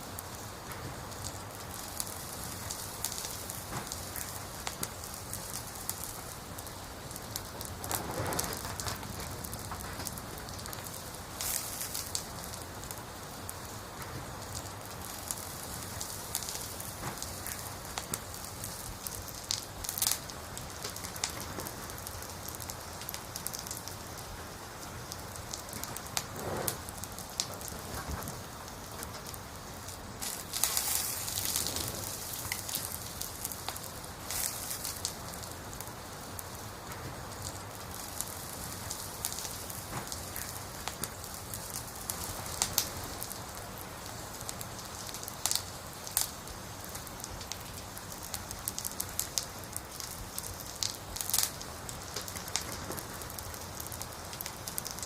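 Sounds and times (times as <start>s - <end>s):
fire hissing: 0.0s - 55.0s
wood fire crackling and popping: 0.0s - 55.0s.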